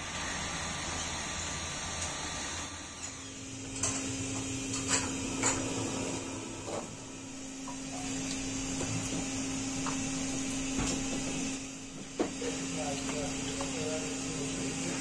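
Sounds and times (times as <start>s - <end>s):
steady low hum: 2.6s - 15.0s.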